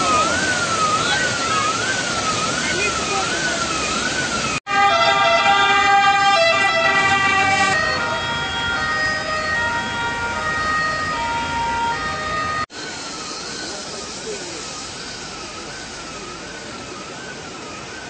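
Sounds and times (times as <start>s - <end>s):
emergency vehicle sirens: 0.0s - 18.0s.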